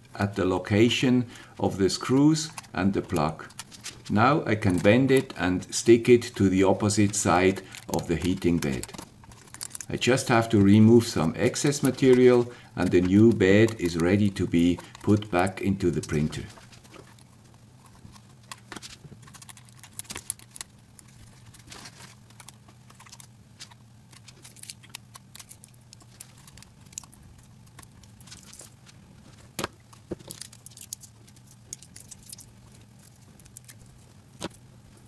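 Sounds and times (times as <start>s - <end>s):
low steady hum: 0.0s - 35.0s
tape crinkling: 1.6s - 35.0s.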